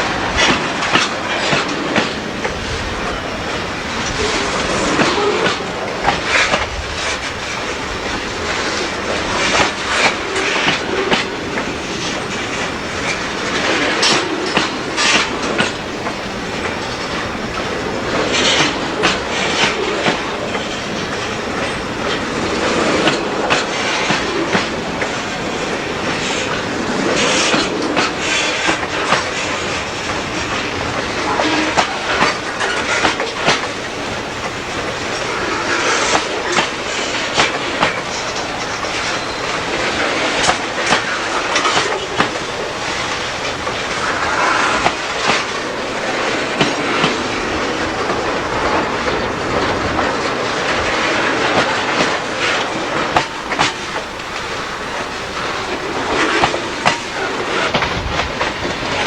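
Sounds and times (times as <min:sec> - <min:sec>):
train wheels clattering over rails: 0:00.0 - 0:59.0.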